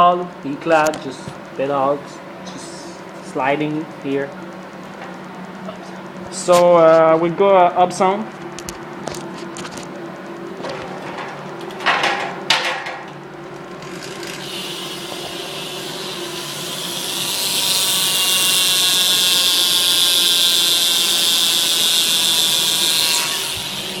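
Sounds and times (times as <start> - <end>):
bike hub freewheel buzzing: 0.0 - 24.0.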